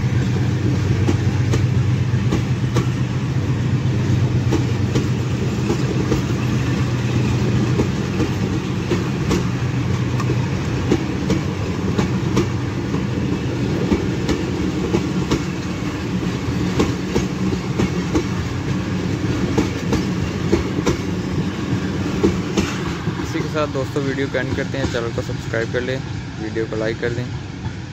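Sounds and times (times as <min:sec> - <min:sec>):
train coaches rumbling past: 0:00.0 - 0:27.9
wheels clicking over rail joints: 0:00.1 - 0:25.9.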